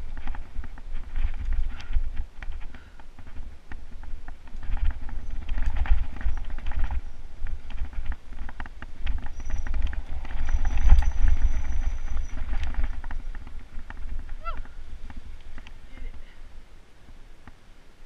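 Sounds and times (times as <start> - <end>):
wind buffeting microphone: 0.0 - 17.3
bike rattling over rough trail: 0.0 - 17.6.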